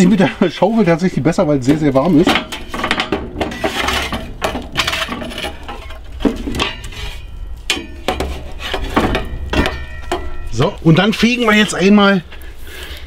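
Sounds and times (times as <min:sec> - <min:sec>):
metal shovel scraping on stone: 0:01.6 - 0:12.4.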